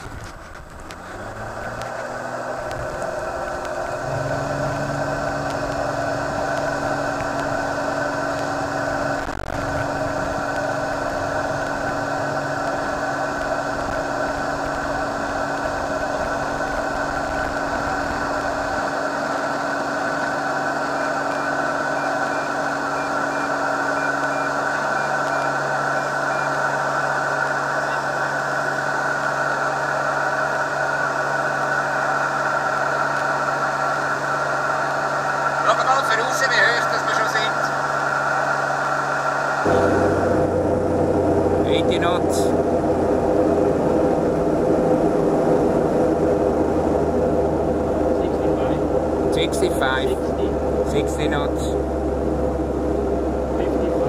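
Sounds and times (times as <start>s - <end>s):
aircraft engine and propeller: 0.0s - 54.0s
wheels rumbling on runway: 0.0s - 54.0s.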